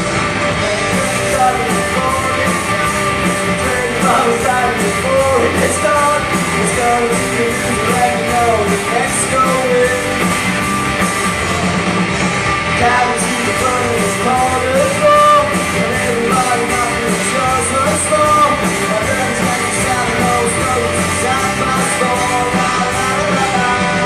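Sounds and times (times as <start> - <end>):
drum kit with cymbal hits: 0.0 - 24.0
electric guitars: 0.0 - 24.0
person singing: 0.5 - 10.4, 12.8 - 24.0.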